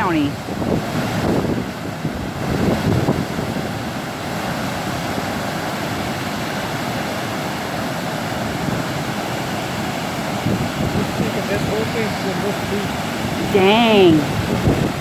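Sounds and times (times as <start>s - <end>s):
floodwater rushing: 0.0s - 15.0s
wind buffeting microphone: 0.0s - 15.0s.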